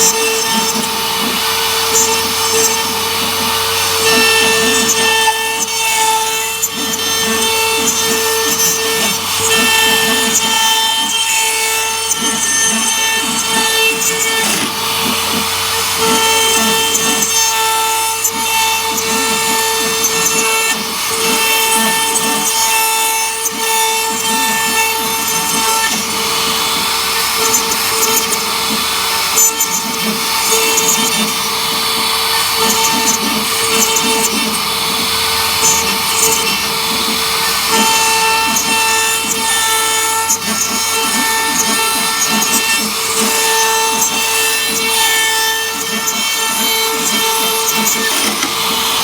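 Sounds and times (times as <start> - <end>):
bit rasping wood: 0.0 - 49.0
router spindle whine: 0.0 - 49.0.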